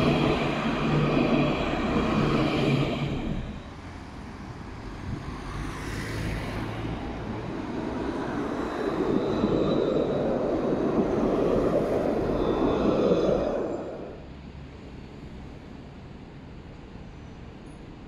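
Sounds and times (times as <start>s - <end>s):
electric tram passing: 0.0s - 18.0s.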